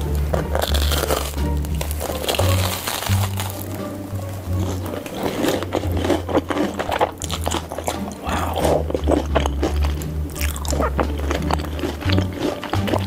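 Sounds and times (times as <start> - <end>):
background music with low notes: 0.0 - 13.0
crunchy chewing: 0.0 - 13.0
wet mouth sounds: 0.3 - 13.0.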